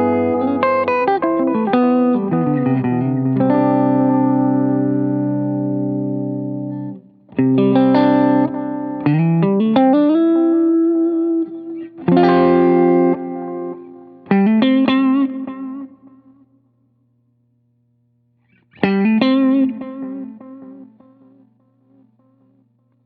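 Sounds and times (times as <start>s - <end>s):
electric guitar chords with delay: 0.0s - 16.5s, 18.5s - 23.0s.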